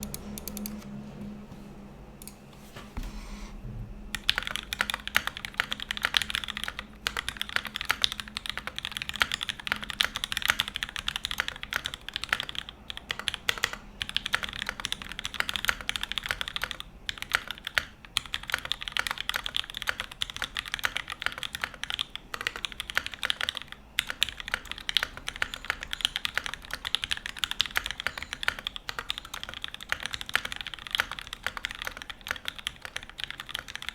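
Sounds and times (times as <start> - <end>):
mechanical keyboard typing: 0.0 - 0.8, 4.1 - 33.9.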